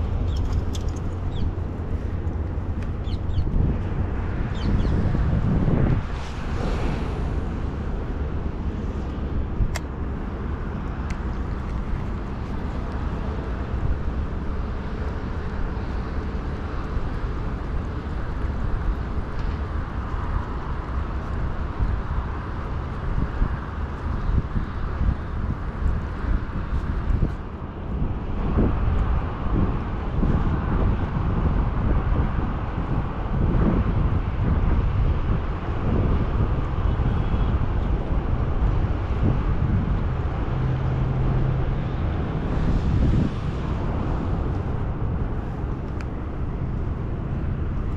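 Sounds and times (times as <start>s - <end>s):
low outdoor rumble: 0.0s - 47.9s
wind buffeting microphone: 0.0s - 47.9s.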